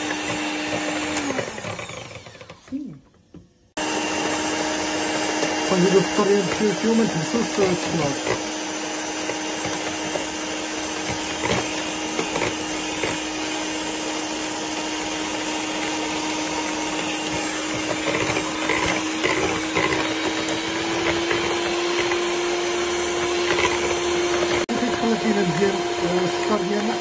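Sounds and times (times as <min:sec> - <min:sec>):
electric hand mixer whirring: 0:00.0 - 0:27.0.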